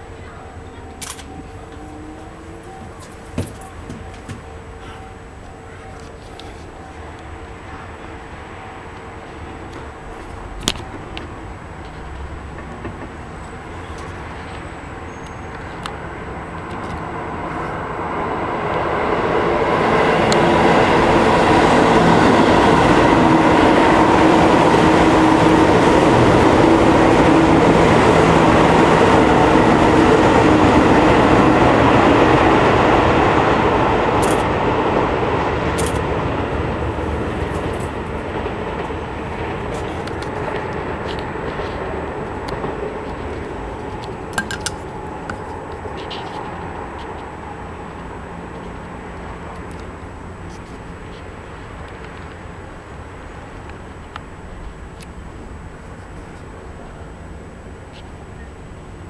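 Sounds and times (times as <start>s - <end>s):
airship propeller engines droning: 0.0s - 59.0s.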